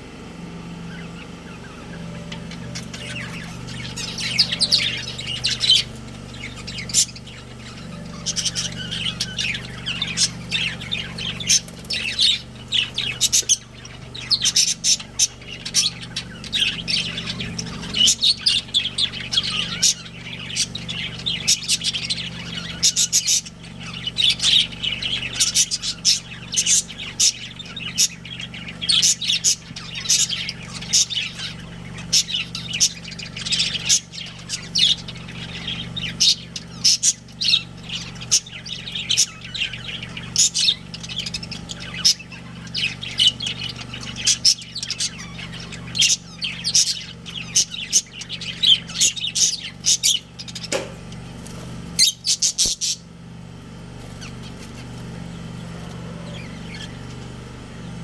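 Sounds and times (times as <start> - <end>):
budgerigars chattering: 0.8 - 58.0.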